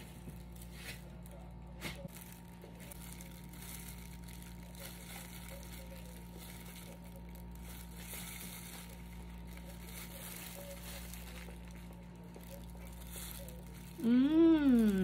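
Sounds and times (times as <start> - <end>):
plastic gloves crinkling: 0.0 - 15.0
steady low hum: 0.0 - 15.0.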